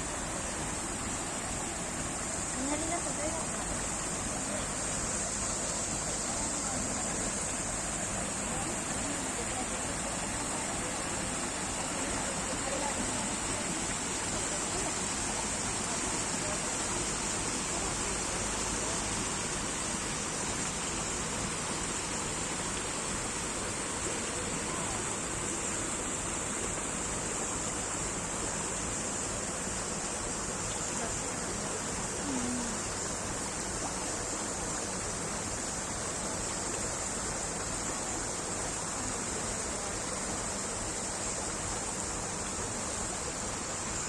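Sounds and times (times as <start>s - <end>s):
steady rushing noise with hiss: 0.0s - 44.0s.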